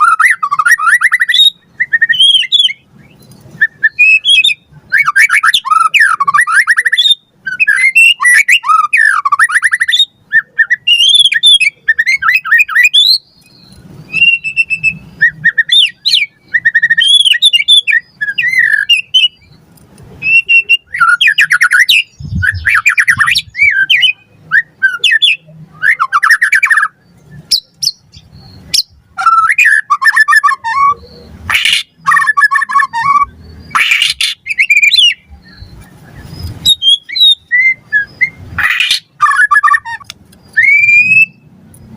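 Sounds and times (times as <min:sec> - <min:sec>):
songbird singing whistles and trills: 0:00.0 - 0:41.9.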